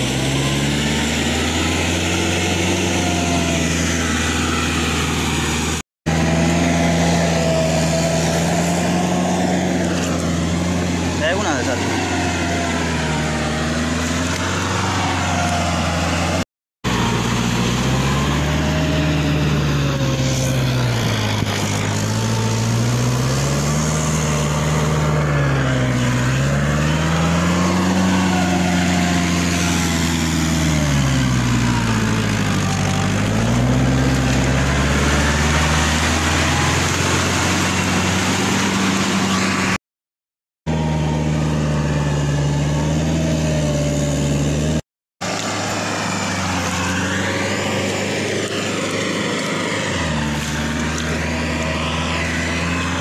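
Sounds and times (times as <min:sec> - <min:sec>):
tractor engine working: 0:00.0 - 0:39.8, 0:40.7 - 0:53.0.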